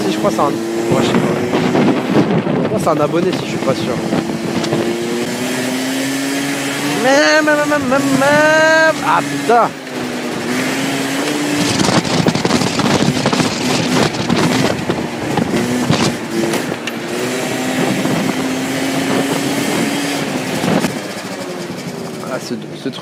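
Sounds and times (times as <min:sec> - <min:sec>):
wind buffeting microphone: 0:00.0 - 0:22.2
scooter engine running: 0:00.0 - 0:23.0.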